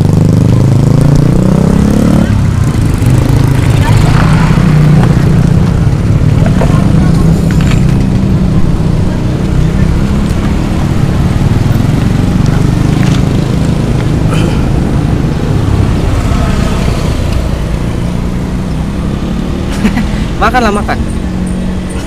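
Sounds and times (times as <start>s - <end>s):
road traffic engine rumble: 0.0s - 22.0s.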